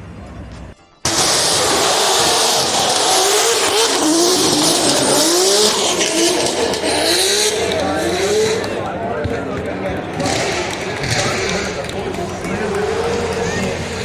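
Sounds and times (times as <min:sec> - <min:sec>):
car engines revving: 0:00.0 - 0:14.0
tyres squealing: 0:00.0 - 0:14.0.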